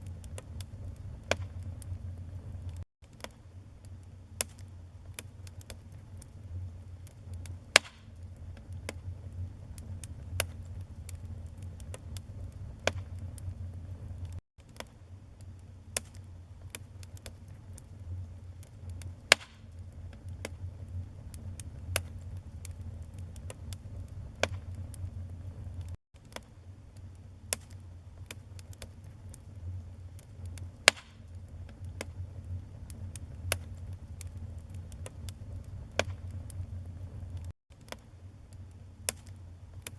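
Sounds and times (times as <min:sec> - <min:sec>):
fire rumbling in fireplace: 0:00.0 - 0:39.9
logs crackling and popping: 0:00.0 - 0:39.9.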